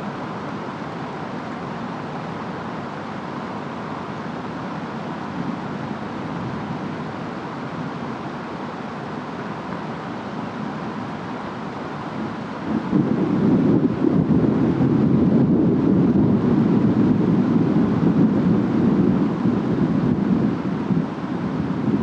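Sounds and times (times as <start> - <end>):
rain: 0.0 - 22.0
wind: 0.0 - 22.0.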